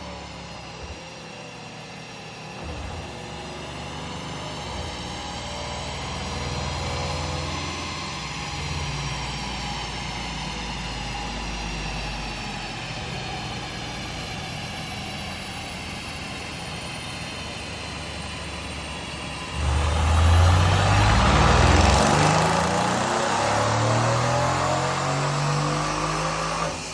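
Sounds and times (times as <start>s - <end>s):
car engine revving: 2.5s - 26.9s.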